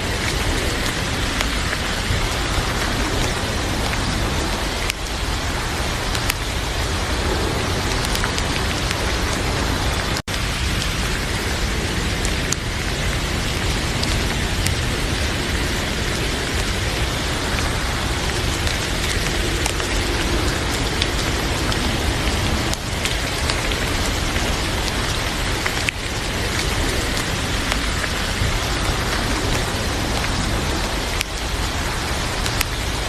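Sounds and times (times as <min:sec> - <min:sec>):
heavy rain falling: 0:00.0 - 0:33.0
wood fire crackling: 0:00.0 - 0:33.0.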